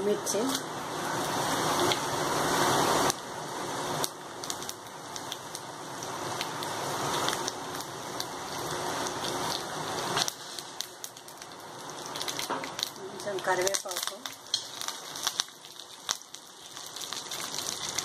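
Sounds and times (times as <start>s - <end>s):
spices sizzling in hot oil: 0.0s - 18.0s.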